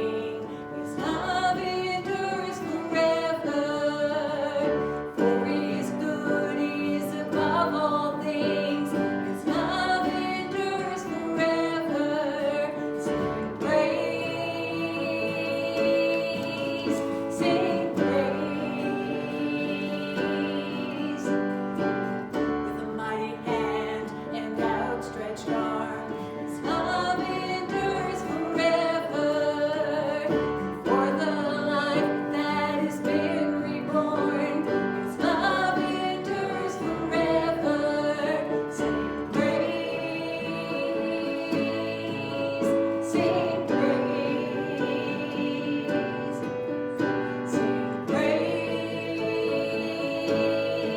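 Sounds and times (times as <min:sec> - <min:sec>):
worship singing with instruments: 0:00.0 - 0:50.9.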